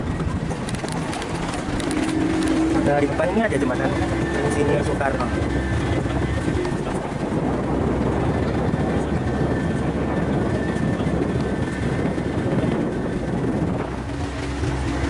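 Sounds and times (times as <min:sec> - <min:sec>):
hull rushing through water: 0:00.0 - 0:15.0
motorboat engine droning: 0:00.0 - 0:15.0.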